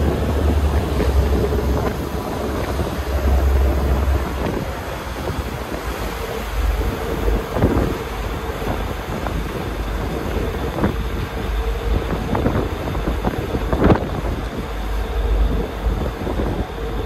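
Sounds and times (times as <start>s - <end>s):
ferry engines humming: 0.0s - 17.0s
wind buffeting microphone: 0.0s - 17.0s.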